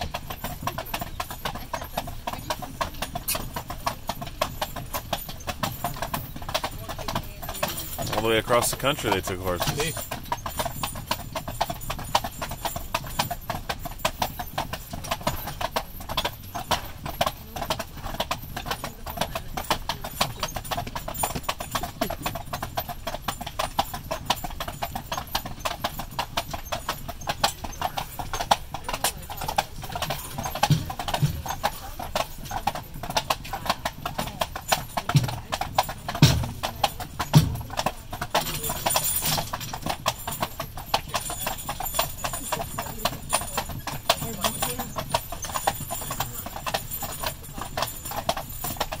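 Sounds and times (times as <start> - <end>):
hooves clip-clopping on asphalt: 0.0 - 49.0.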